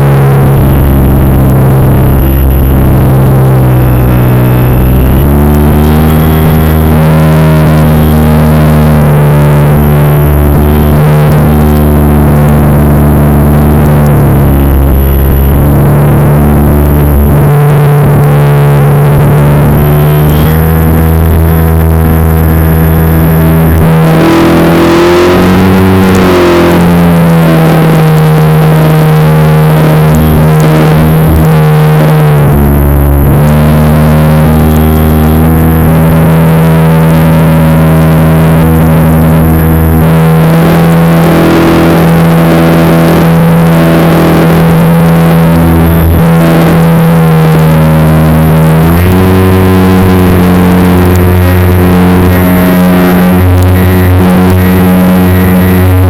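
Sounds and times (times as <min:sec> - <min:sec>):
model plane motor droning: 0:00.0 - 0:56.0.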